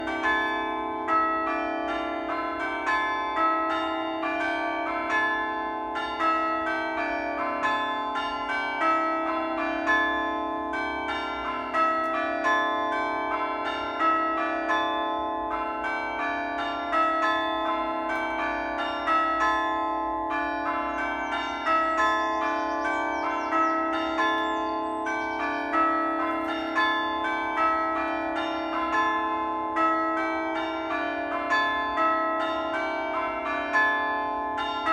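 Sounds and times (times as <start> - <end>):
church bells pealing: 0.0 - 34.9.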